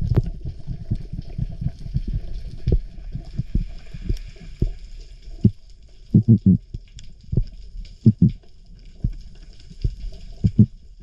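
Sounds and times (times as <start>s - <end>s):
underwater thumps and rumbles: 0.0s - 11.0s.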